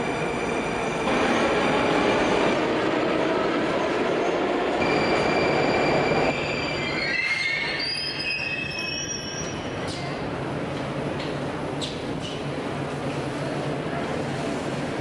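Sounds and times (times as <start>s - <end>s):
metro train running: 0.0s - 15.0s.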